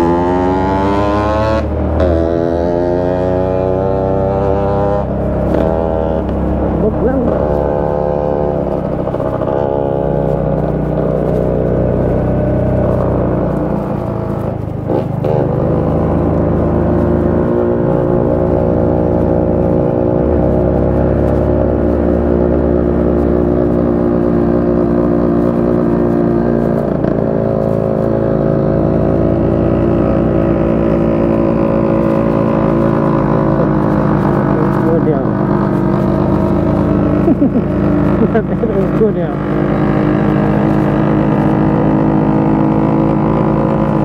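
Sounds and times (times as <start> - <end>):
small motorcycle engine running: 0.0 - 44.0.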